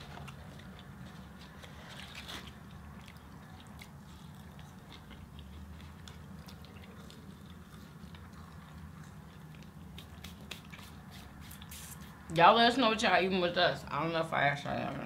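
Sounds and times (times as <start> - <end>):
people chewing fries: 0.0 - 12.3.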